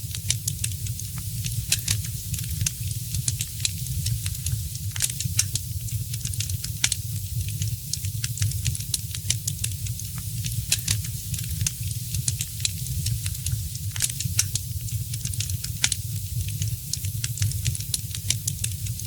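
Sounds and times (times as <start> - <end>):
wood fire crackling and popping: 0.1 - 19.0.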